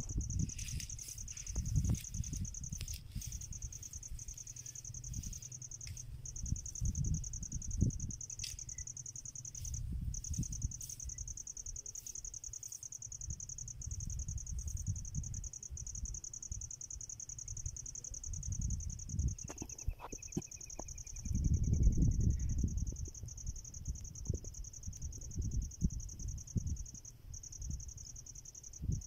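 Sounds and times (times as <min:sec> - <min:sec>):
insect trilling: 0:00.0 - 0:29.0.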